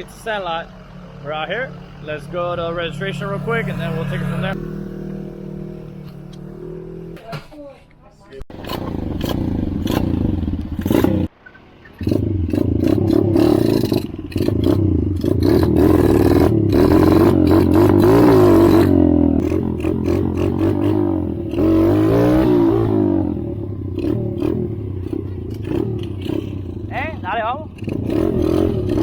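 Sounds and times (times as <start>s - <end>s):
engine revving: 0.0s - 7.2s, 8.5s - 11.4s, 12.0s - 29.0s.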